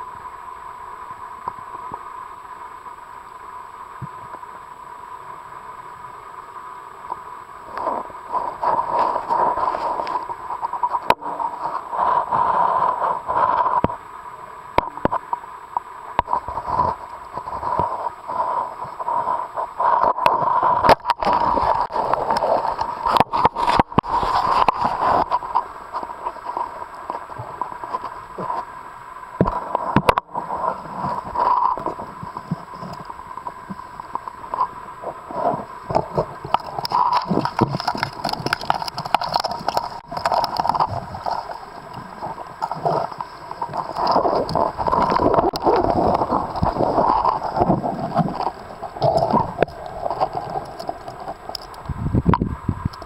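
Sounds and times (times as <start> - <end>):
faint steady whine: 0.0 - 53.0
water sloshing and gurgling: 7.0 - 14.1, 14.7 - 53.0.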